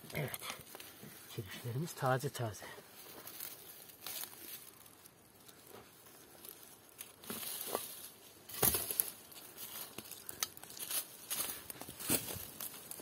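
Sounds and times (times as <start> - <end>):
dry leaves rustling and crackling: 0.7 - 13.0.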